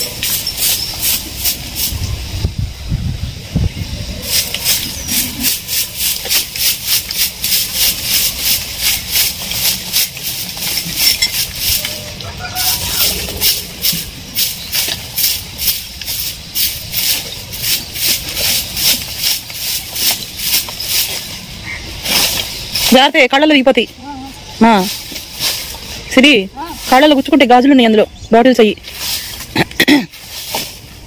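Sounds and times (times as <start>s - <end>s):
broom sweeping debris on ground: 0.0s - 2.4s, 3.9s - 23.3s, 24.3s - 27.5s, 28.8s - 31.0s.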